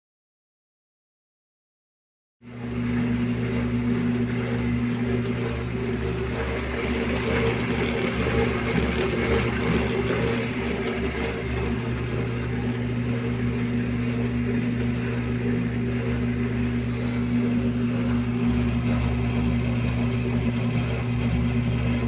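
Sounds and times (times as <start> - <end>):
washing machine motor hum: 2.4 - 22.0.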